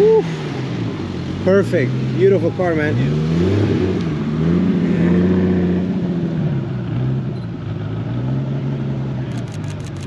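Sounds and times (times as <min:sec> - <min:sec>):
car engine driving by: 0:00.0 - 0:10.0.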